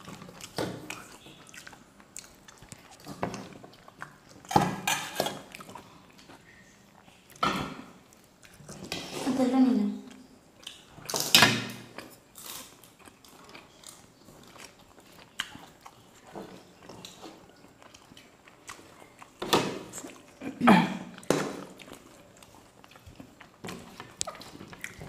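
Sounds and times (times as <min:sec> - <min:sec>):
soft chewing: 0:00.0 - 0:25.0.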